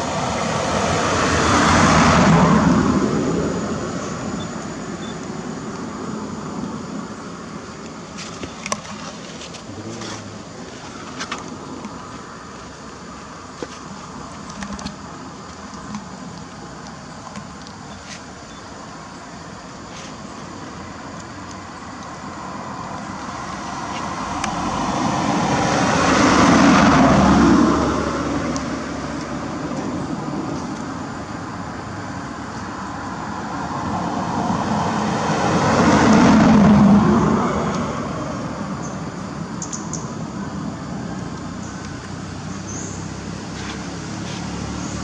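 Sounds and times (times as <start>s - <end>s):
background traffic noise: 0.0s - 45.0s
vehicles passing by: 0.0s - 45.0s.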